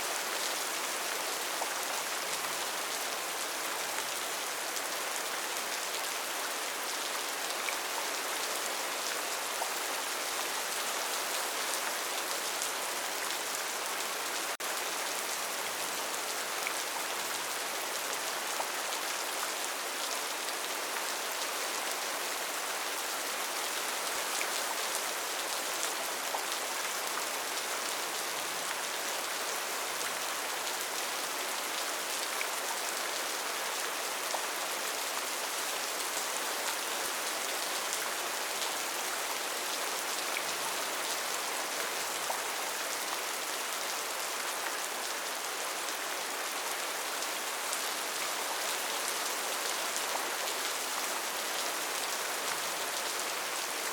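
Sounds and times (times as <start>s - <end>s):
rain on forest canopy: 0.0s - 53.9s.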